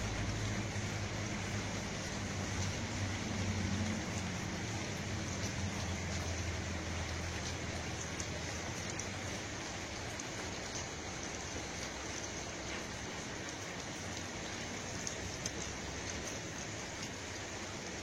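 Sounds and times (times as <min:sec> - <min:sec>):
rushing hiss with faint ticks: 0:00.0 - 0:18.0.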